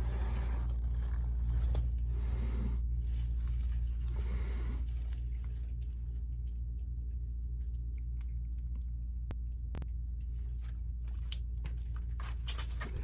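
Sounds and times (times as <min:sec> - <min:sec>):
crunching chewing noises: 0:00.0 - 0:13.0
low electrical hum: 0:00.0 - 0:13.0.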